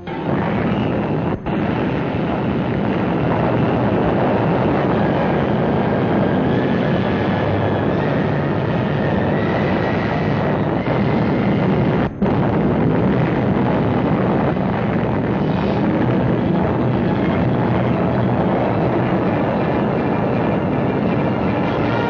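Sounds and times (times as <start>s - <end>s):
atomic bomb blast rumble: 0.0s - 22.0s.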